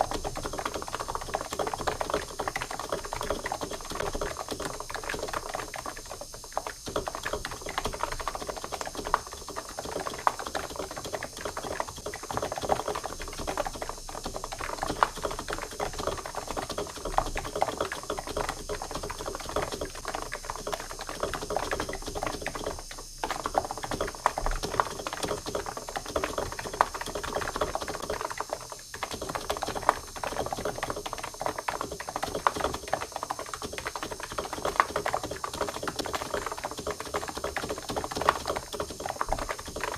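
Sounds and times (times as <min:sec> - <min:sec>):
fast typing on computer keyboard: 0:00.0 - 0:39.9.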